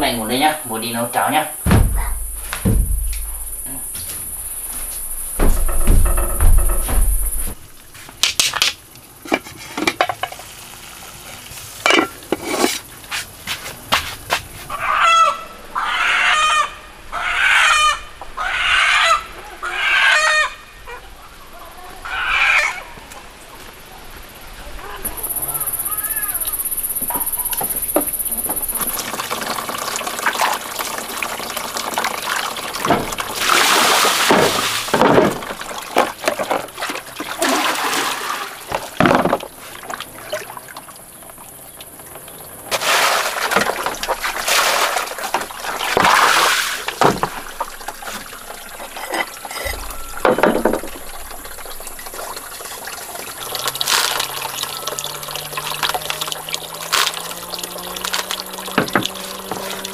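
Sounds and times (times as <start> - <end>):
water splashing and trickling: 0.0 - 16.2, 22.4 - 59.9.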